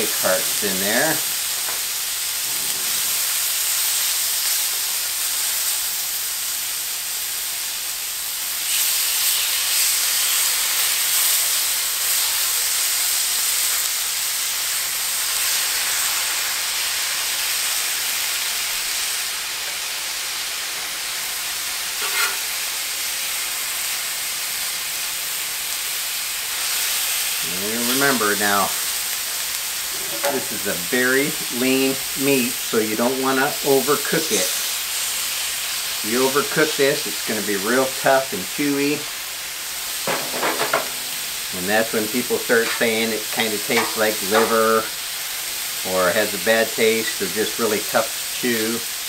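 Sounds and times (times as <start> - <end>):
food sizzling on a griddle: 0.0 - 49.0.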